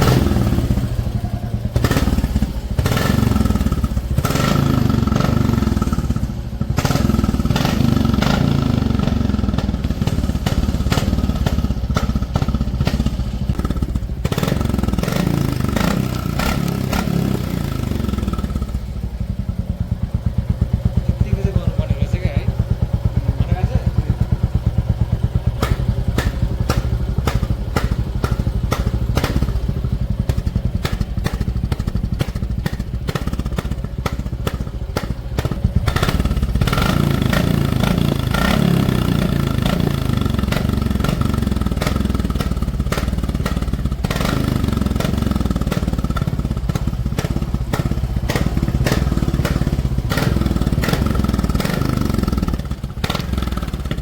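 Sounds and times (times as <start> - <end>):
motorcycle exhaust thumping and revving: 0.0 - 54.0.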